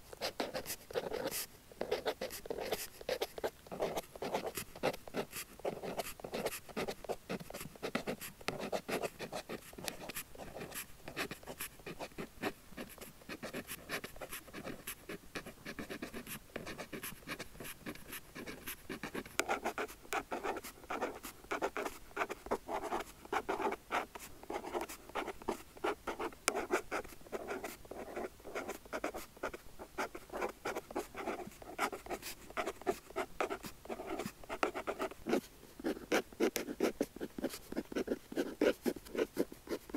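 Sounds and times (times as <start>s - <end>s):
pen scratching on paper: 0.2s - 39.9s.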